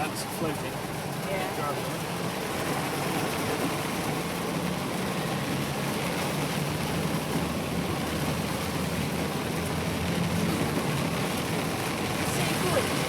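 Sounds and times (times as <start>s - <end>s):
vehicle engine humming: 0.2s - 13.0s
heavy rain falling: 0.6s - 13.0s.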